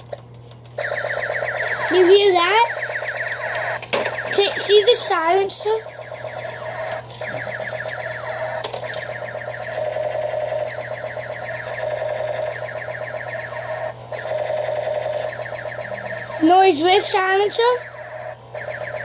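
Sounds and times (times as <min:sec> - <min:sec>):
steady electronic tone: 0:00.8 - 0:16.5
toy gun electronic firing chirps: 0:00.8 - 0:19.0.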